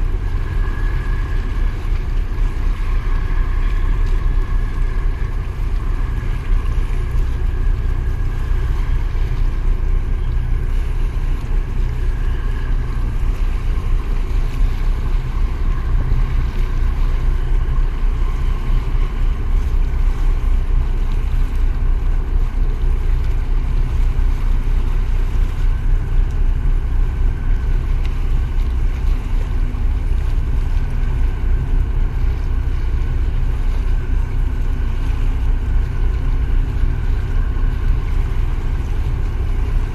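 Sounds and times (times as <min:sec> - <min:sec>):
tug engine drone with whine: 0:00.0 - 0:39.9.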